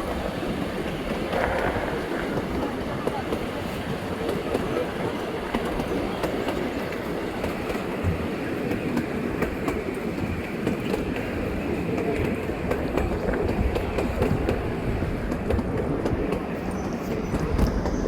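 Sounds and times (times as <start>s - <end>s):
train running along track: 0.0s - 18.0s.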